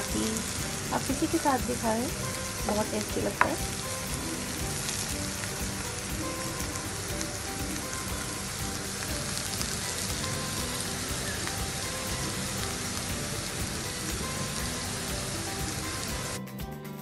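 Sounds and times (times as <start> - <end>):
potatoes sizzling in oil: 0.0 - 16.4
soft background music: 0.0 - 17.0.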